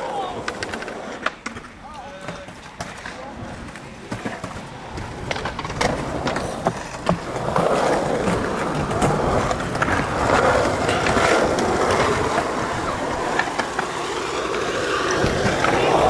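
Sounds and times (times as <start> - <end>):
skateboard rolling on asphalt: 0.0 - 16.0
skateboard wheels clacking: 0.0 - 16.0.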